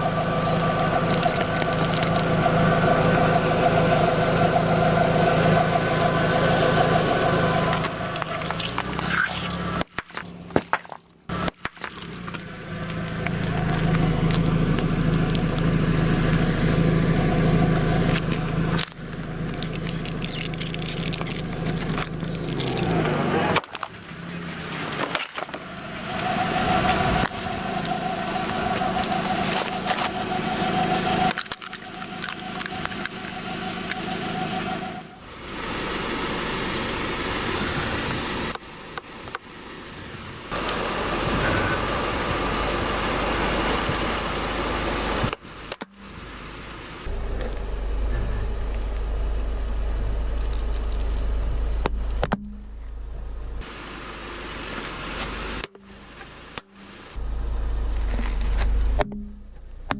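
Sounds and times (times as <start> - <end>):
car engine running: 0.0 - 59.9
car tyre crushing objects: 0.0 - 59.9.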